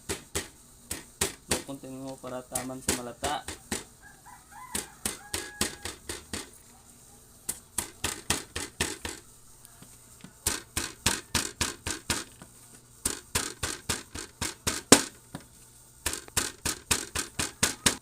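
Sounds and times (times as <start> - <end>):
leaves pounded in a cup: 0.0 - 3.9, 4.6 - 6.6, 7.5 - 9.3, 10.4 - 18.0.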